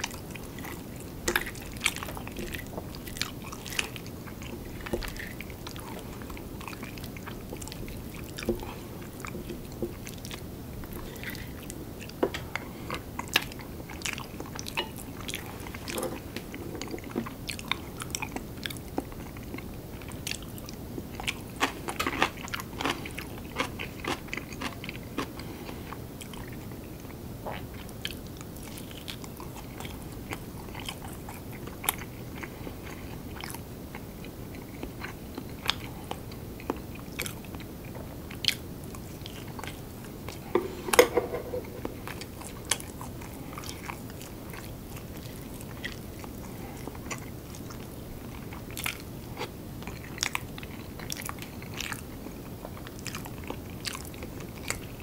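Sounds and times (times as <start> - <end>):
man chewing food: 0.0 - 55.0.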